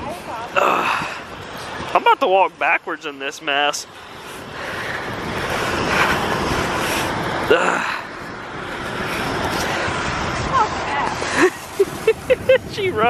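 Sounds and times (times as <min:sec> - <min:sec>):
strong wind on microphone: 0:00.0 - 0:02.4, 0:03.8 - 0:13.0.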